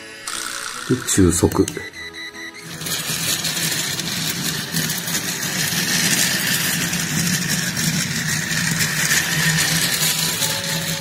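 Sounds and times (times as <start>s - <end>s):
toy train motor whirring and rattling: 0.0s - 1.8s, 2.5s - 11.0s.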